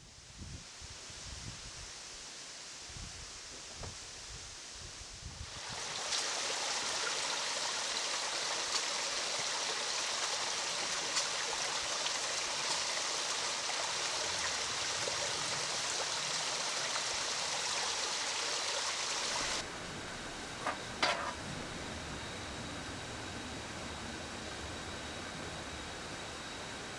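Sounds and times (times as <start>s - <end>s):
wind rushing through leaves: 0.0s - 23.7s.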